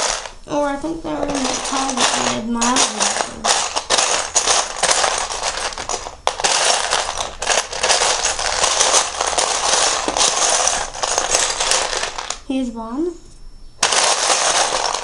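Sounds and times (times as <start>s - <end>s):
plastic bricks clattering: 0.0s - 0.4s, 1.1s - 12.4s, 13.8s - 15.0s.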